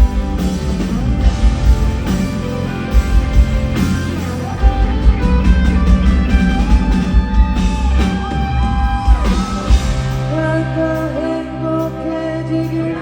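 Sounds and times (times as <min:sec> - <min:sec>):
bass: 0:00.0 - 0:13.0
drums: 0:00.0 - 0:13.0
electric guitar: 0:00.0 - 0:13.0.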